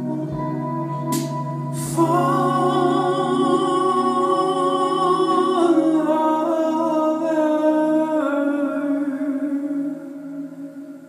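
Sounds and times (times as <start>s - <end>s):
guitar: 0.0s - 11.0s.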